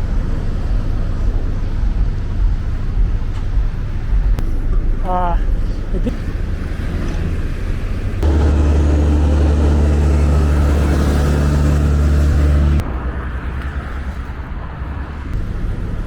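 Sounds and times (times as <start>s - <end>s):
engine running steadily: 0.0s - 16.0s
road traffic noise: 0.0s - 16.0s.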